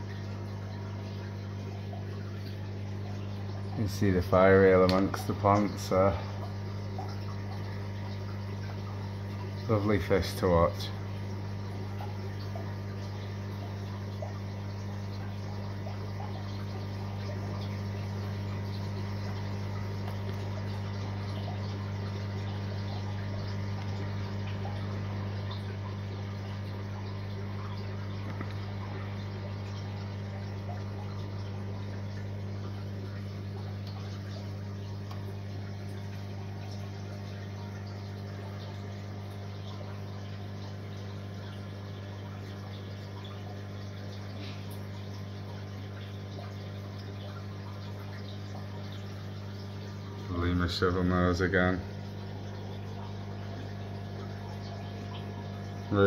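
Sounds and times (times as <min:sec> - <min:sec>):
aquarium pump humming underwater: 0:00.0 - 0:56.0
water flowing: 0:00.0 - 0:56.0.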